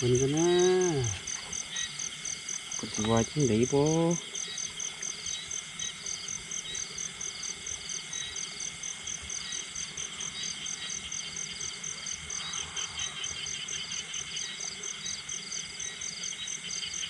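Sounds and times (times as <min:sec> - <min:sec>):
crickets chirping: 0:00.0 - 0:17.0
soft insect trills: 0:00.0 - 0:17.0.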